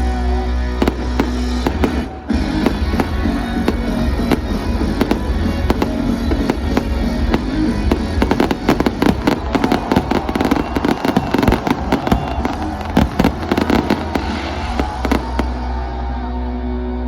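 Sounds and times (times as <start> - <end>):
fireworks bangs and crackles: 0.7 - 16.2.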